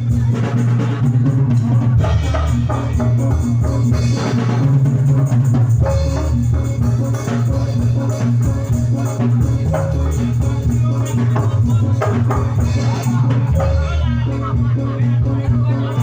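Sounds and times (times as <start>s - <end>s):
drums and percussion: 0.0s - 16.0s
heavy bass: 0.0s - 16.0s.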